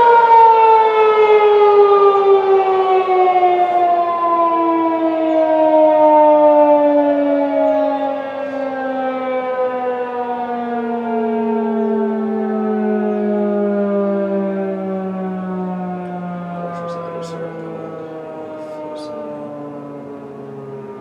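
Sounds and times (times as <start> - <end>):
warning siren sliding down: 0.0 - 21.0.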